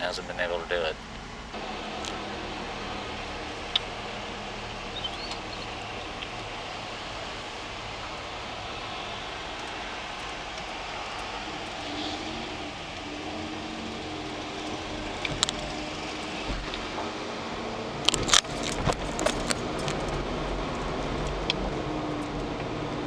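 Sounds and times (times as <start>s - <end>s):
van engine and tyres humming: 0.0s - 23.0s.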